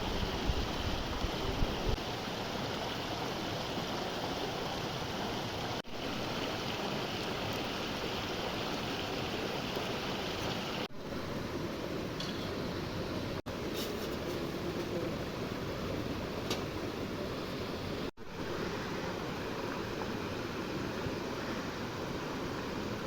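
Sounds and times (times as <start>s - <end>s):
flowing water rushing: 0.0s - 23.0s.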